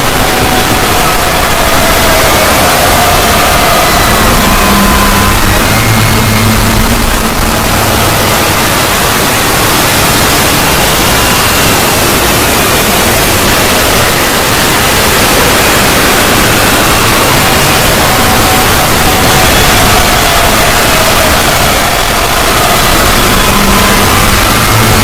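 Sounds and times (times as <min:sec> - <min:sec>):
dense static-like noise: 0:00.0 - 0:25.0
faint drifting tones: 0:00.0 - 0:25.0.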